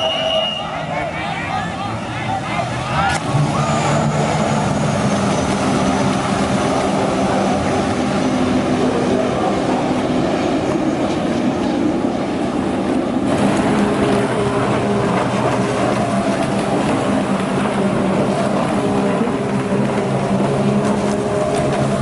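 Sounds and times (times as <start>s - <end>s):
jet ski engines droning: 0.0s - 22.0s.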